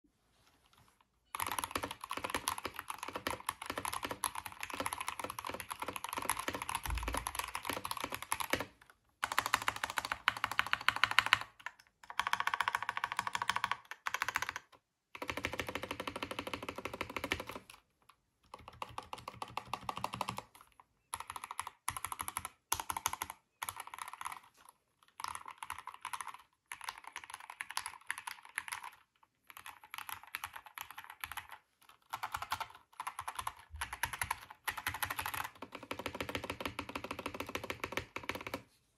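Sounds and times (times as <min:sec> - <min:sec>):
fast typing on mechanical keyboard: 0:01.3 - 0:17.8, 0:18.5 - 0:38.6.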